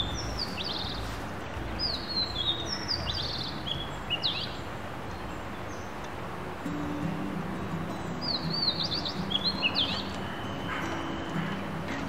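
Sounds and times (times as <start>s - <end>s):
songbird chirping: 0.0s - 12.0s
steady background hiss: 0.0s - 12.0s.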